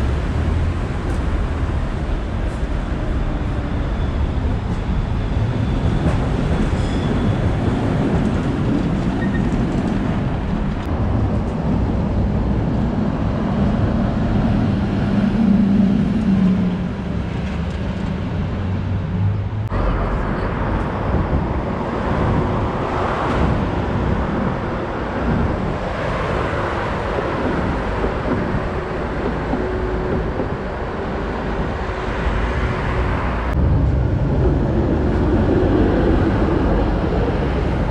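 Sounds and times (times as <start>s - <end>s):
street traffic at a junction: 0.0s - 37.9s
tram passing with motor hum: 0.0s - 37.9s.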